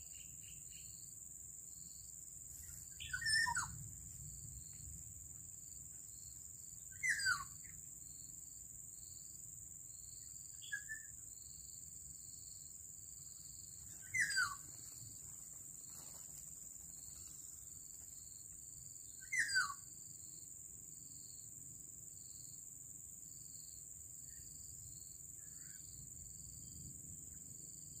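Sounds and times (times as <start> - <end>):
high insect whine: 0.0 - 28.0
pulsing insect chirp: 0.0 - 28.0.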